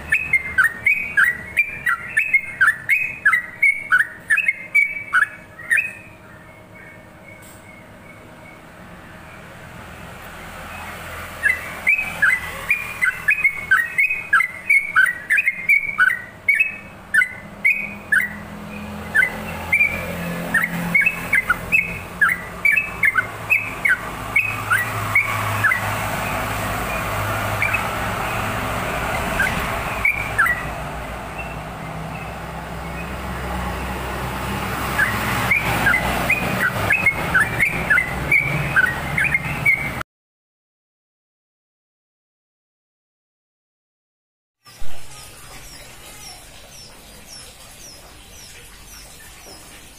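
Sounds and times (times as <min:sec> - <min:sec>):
bird singing rapid runs: 0:00.0 - 0:40.0, 0:44.7 - 0:49.9.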